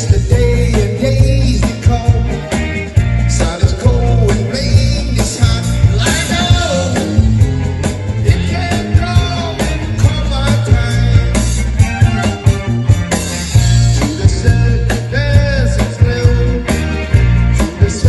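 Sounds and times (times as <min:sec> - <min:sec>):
person singing: 0:00.0 - 0:07.2, 0:08.2 - 0:11.6, 0:13.9 - 0:18.0
rock band playing: 0:00.0 - 0:18.0.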